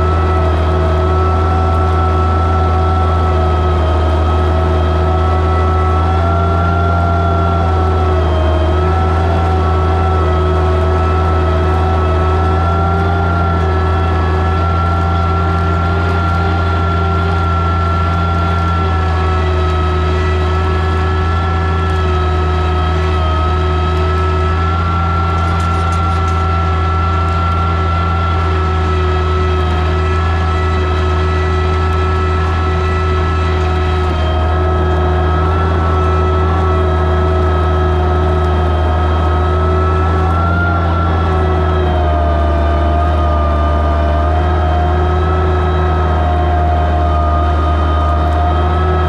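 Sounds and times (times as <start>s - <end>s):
tractor engine droning under load: 0.0s - 49.0s.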